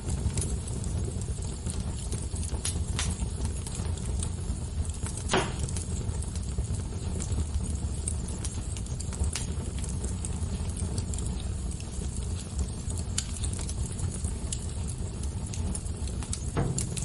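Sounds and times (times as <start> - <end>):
fire crackling with pops: 0.0 - 17.0.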